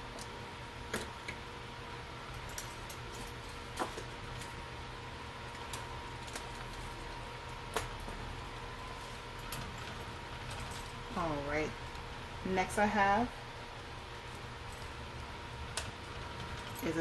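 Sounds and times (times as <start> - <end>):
faint constant whine: 0.0 - 17.0
low electrical hum: 0.0 - 17.0.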